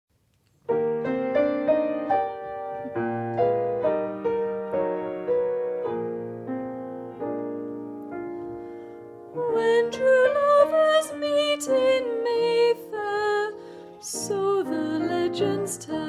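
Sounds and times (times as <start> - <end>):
slow piano chords: 0.6 - 16.0.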